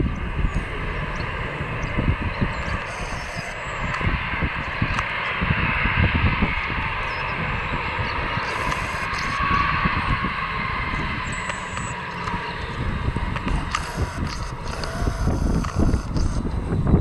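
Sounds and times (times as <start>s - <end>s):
jet engines whining: 0.0s - 17.0s
wind buffeting microphone: 0.0s - 17.0s.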